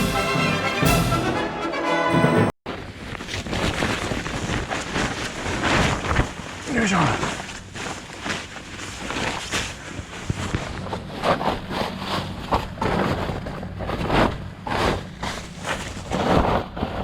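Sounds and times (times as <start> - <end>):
camping gear rustling and knocking: 2.8 - 17.0.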